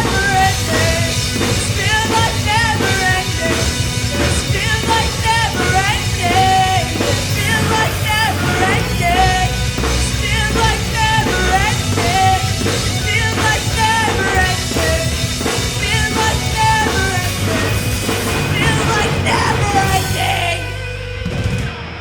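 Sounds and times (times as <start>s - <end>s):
bass guitar: 0.0s - 22.0s
distorted guitars: 0.0s - 22.0s
drum kit: 0.0s - 22.0s
lead singer: 0.0s - 22.0s.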